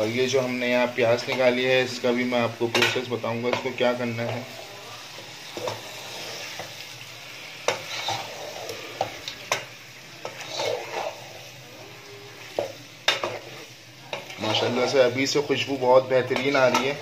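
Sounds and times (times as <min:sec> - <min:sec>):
chicken sizzling in oil: 0:00.0 - 0:17.0
spatula scraping pan: 0:00.0 - 0:17.0.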